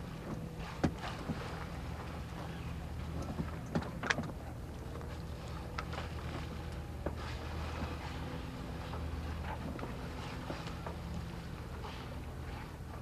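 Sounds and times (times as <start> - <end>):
boat engine humming: 0.0 - 13.0
water splashing and slapping: 0.0 - 13.0.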